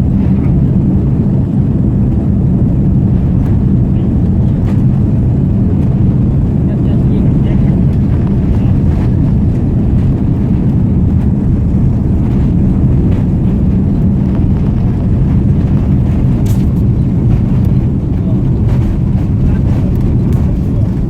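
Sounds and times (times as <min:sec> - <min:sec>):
jet engines rumbling in cabin: 0:00.0 - 0:21.0.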